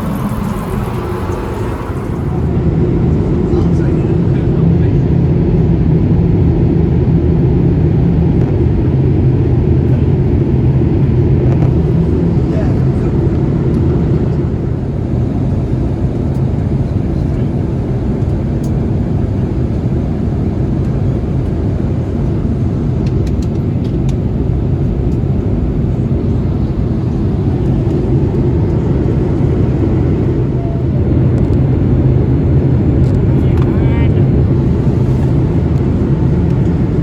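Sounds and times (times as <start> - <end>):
airliner cabin roar: 0.0 - 37.0.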